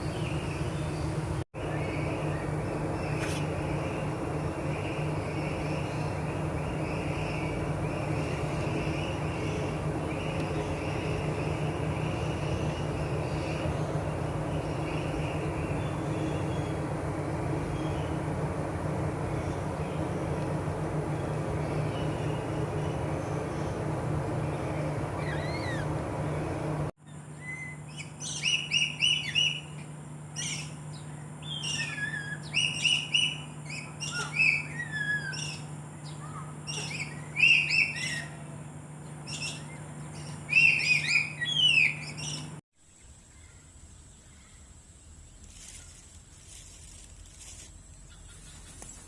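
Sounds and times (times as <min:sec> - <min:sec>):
birds chirping and whistling: 0:00.0 - 0:18.3, 0:19.1 - 0:42.6
low mechanical hum: 0:00.0 - 0:49.0.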